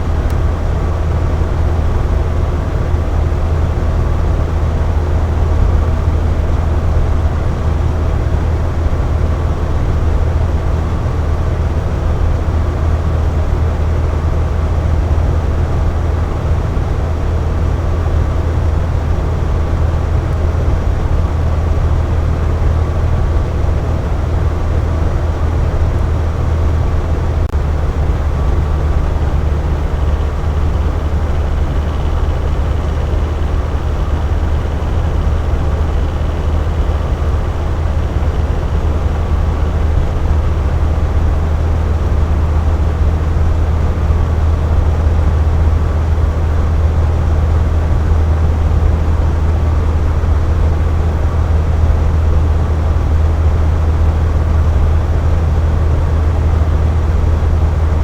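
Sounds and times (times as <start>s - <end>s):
electric fan humming: 0.0s - 58.0s.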